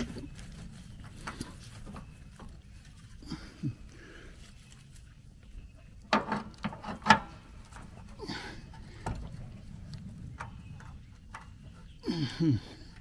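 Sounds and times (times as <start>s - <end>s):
rustle: 0.0s - 10.8s.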